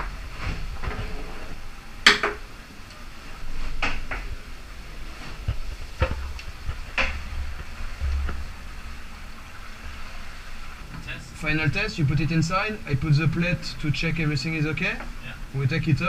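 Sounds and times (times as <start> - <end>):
low boat rumble: 0.0 - 16.0.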